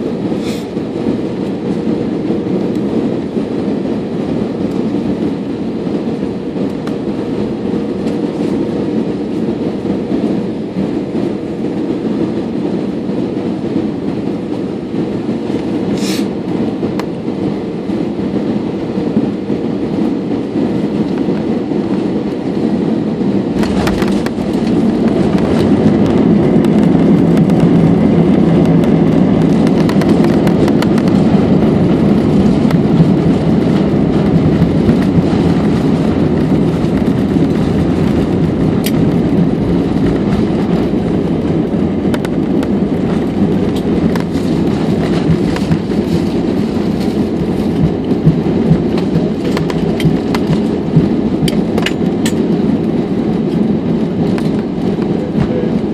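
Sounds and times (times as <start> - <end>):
jet engines roaring: 0.0 - 55.9
wheels rumbling on runway: 0.0 - 55.9.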